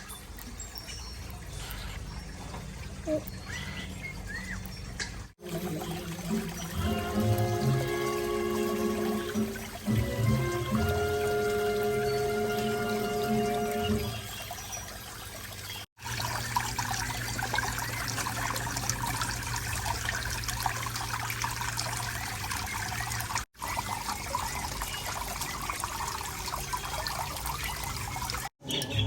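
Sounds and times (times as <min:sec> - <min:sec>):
water trickling: 0:00.0 - 0:29.0.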